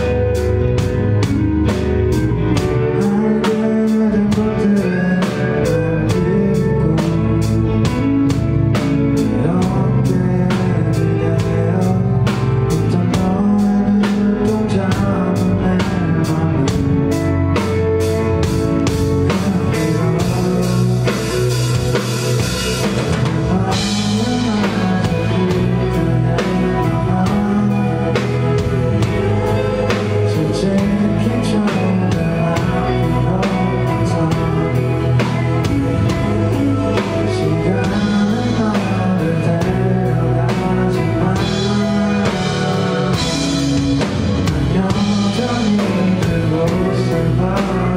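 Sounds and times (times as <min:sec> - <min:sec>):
bass guitar: 0:00.0 - 0:47.9
drum kit steady beat: 0:00.0 - 0:47.9
electric guitar: 0:00.0 - 0:47.9.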